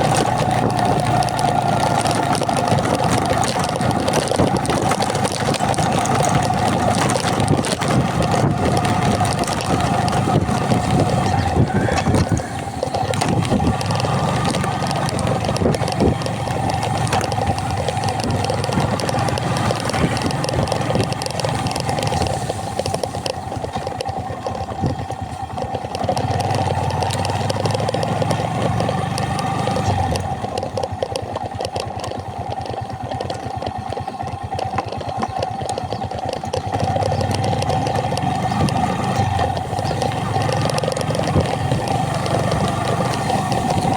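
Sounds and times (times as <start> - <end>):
small knocks and rattles: 0.0 - 43.9
vehicle engine humming: 0.0 - 43.9.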